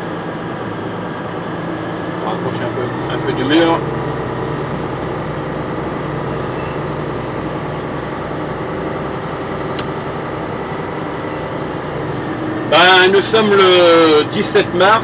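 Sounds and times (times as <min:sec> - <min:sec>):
small vehicle motor humming: 0:00.0 - 0:15.0.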